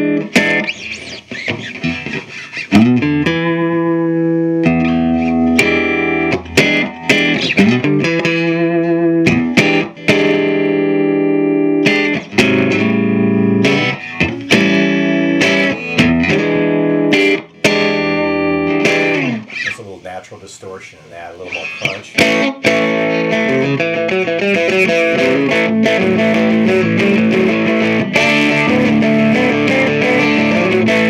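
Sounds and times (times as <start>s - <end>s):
electric guitar strummed chords: 0.0s - 19.7s, 21.5s - 31.0s.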